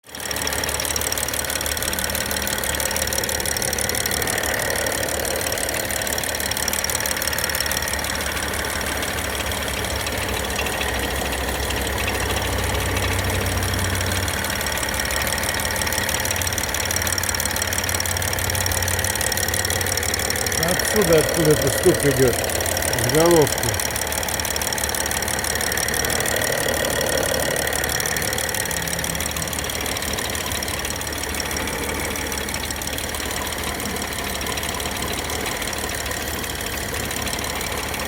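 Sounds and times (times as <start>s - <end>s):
car engine idling: 0.0s - 38.0s
rapid engine knocking: 0.0s - 38.0s.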